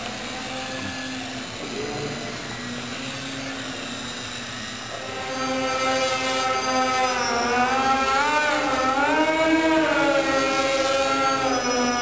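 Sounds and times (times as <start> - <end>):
model airplane motor whine: 0.0 - 12.0.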